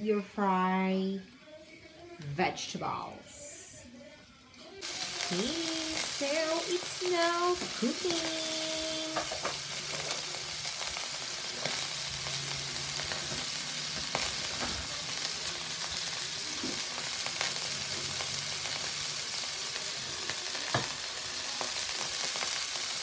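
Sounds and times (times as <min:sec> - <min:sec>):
vegetables sizzling in wok: 0:00.0 - 0:23.0.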